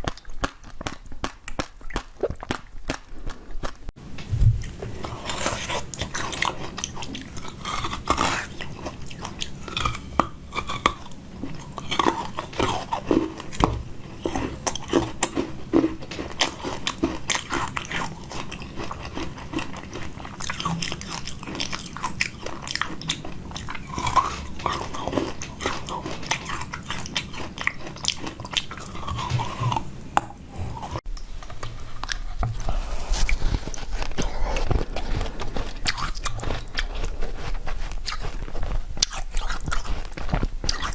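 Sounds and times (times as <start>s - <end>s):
person chewing sweets: 0.0s - 40.9s.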